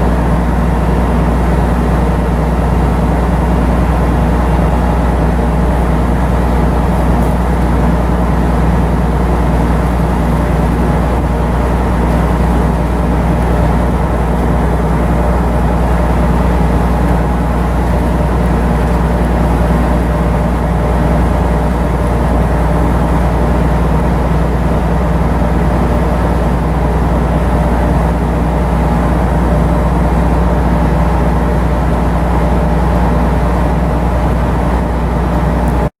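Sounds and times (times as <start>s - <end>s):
diesel engine drone: 0.0s - 35.9s.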